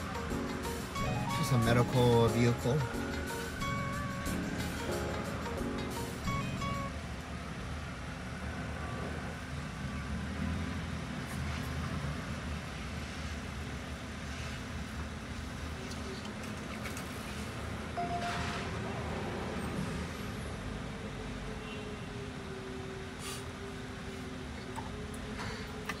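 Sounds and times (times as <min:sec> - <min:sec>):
vehicles idling and passing: 0:00.0 - 0:26.0.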